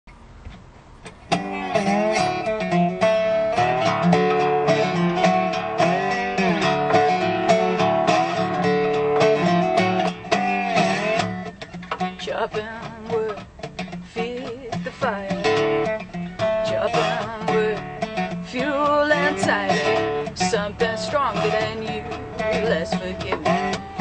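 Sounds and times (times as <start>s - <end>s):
resonator guitar picked notes: 1.0s - 24.0s.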